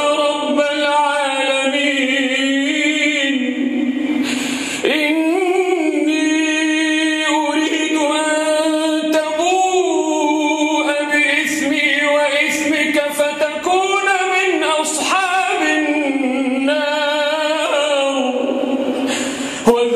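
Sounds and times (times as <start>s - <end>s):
man reciting melodically: 0.0s - 19.9s.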